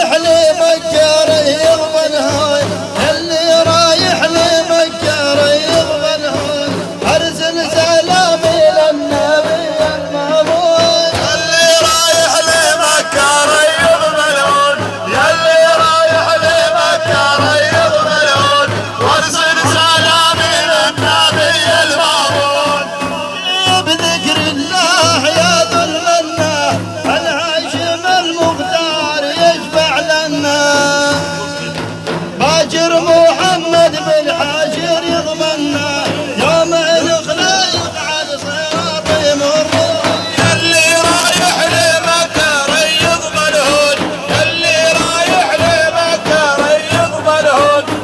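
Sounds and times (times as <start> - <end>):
steady drum beat: 0.0 - 48.0.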